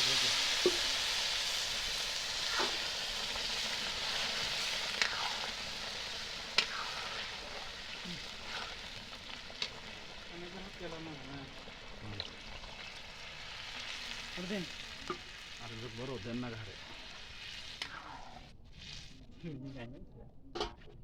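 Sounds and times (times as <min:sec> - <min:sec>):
rice sizzling in hot oil: 0:00.0 - 0:19.6.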